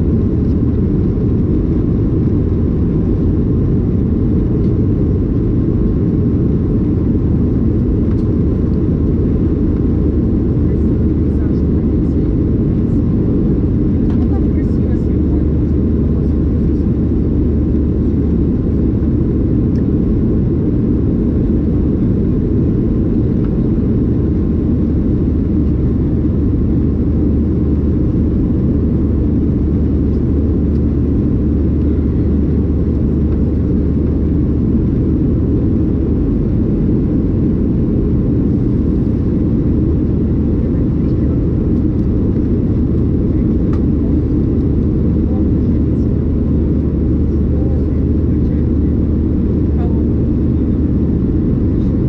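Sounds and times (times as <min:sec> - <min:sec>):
airplane cabin rumble: 0:00.0 - 0:52.0.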